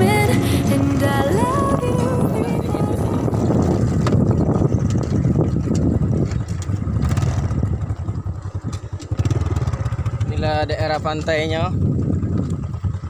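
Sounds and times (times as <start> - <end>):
vehicle engine rumbling: 0.0 - 13.0
wind buffeting microphone: 0.0 - 13.0.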